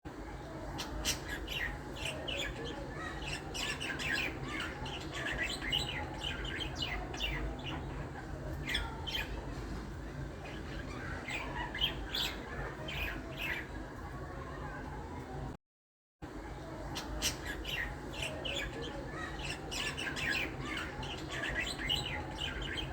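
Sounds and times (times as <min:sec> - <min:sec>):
birds chirping: 0:00.1 - 0:15.4, 0:16.3 - 0:22.9.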